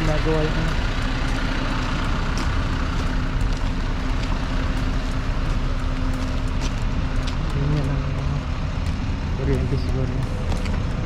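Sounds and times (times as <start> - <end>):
large engine humming: 0.0 - 11.0.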